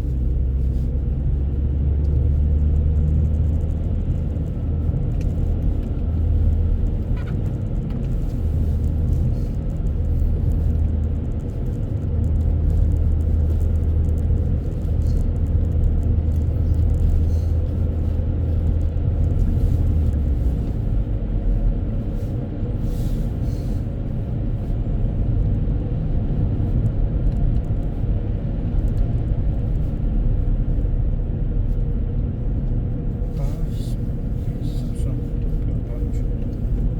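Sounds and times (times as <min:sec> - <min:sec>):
car interior road and engine noise: 0:00.0 - 0:36.9.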